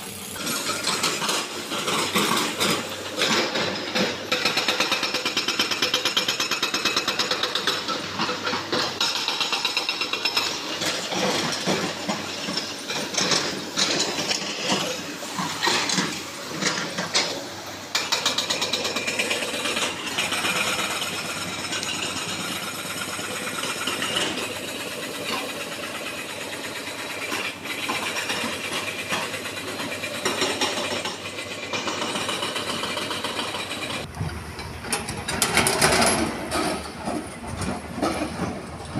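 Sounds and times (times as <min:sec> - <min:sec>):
pneumatic rock drill hammering: 0:00.0 - 0:38.9.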